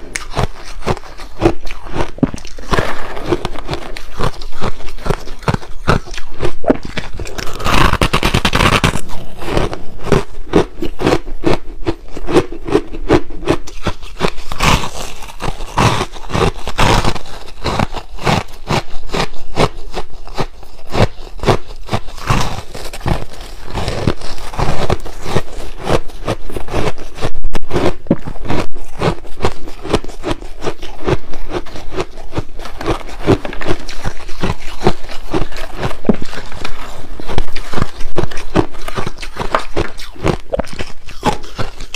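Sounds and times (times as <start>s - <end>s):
ice crunching in a glass bowl: 0.2s - 11.3s, 13.5s - 41.9s.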